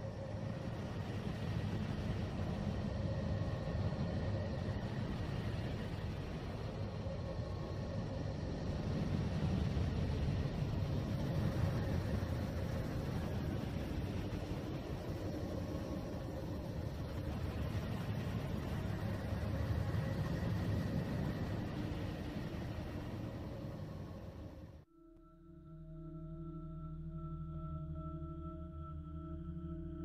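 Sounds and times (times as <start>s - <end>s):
deep rumbling ambient noise: 0.0s - 30.0s
faint hum tones: 0.0s - 30.0s.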